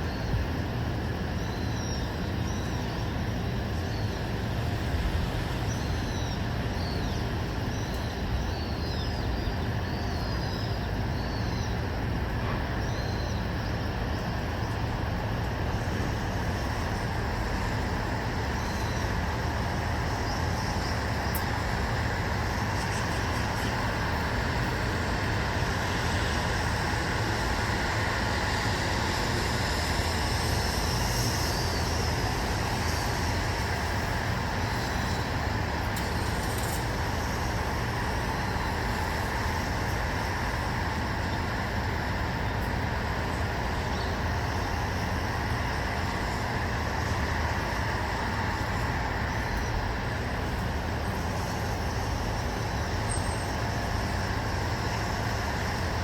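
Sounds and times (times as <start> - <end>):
even outdoor hiss: 0.0 - 56.0.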